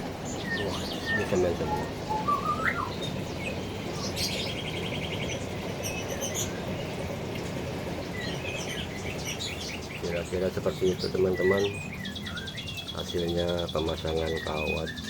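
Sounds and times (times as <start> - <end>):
small birds chirping: 0.0 - 15.0
steady low background hum: 0.0 - 15.0.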